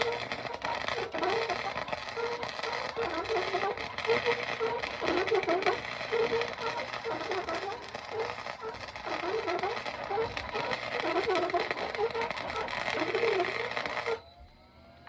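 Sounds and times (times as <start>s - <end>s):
welder arc crackling: 0.0s - 14.2s.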